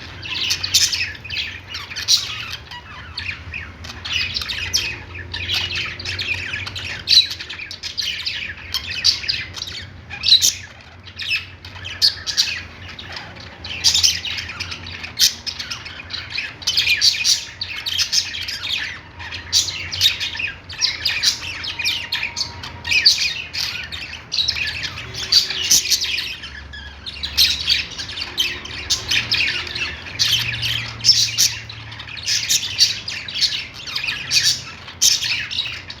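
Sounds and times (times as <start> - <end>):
budgerigars chirping and squawking: 0.0 - 36.0.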